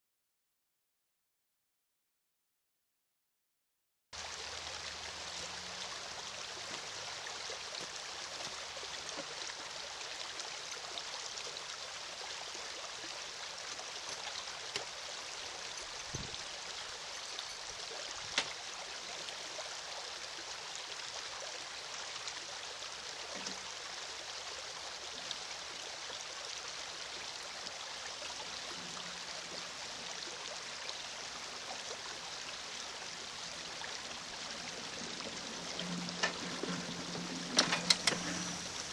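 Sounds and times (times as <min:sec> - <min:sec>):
small stream rushing: 0:04.2 - 0:38.9.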